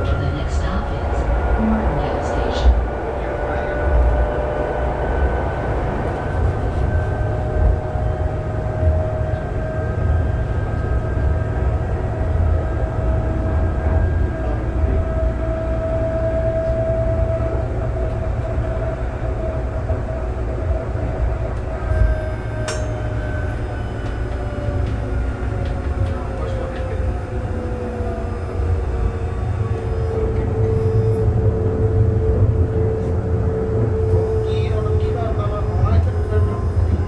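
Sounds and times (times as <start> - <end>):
train wheels rumbling on rail: 0.0 - 37.0
train whine: 0.0 - 37.0.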